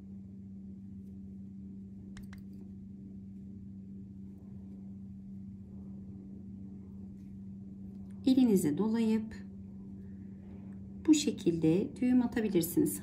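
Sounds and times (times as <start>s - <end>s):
low room tone hum: 0.0s - 13.0s.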